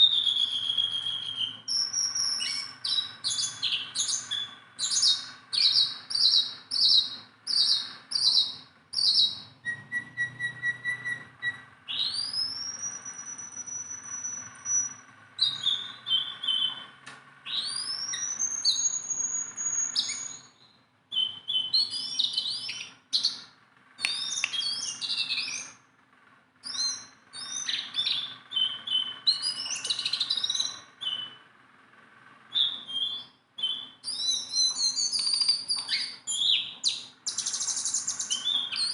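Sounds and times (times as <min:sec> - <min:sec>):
bird singing: 0:00.0 - 0:25.9, 0:26.6 - 0:31.5, 0:32.5 - 0:38.9.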